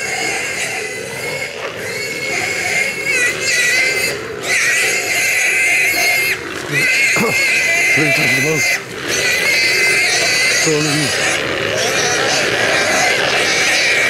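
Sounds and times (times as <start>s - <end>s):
pig squealing: 0.0s - 14.0s.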